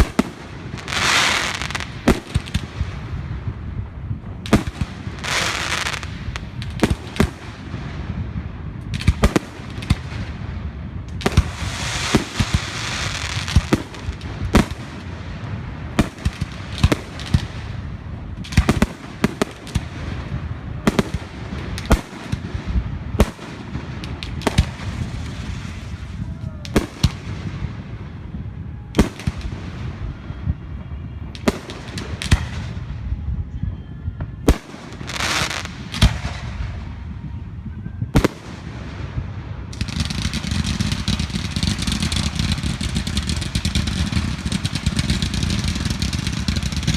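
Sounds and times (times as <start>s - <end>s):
fireworks hissing and crackling: 0.0s - 28.0s, 34.5s - 36.8s, 39.7s - 46.9s
fireworks bangs: 0.0s - 33.2s, 34.2s - 46.9s.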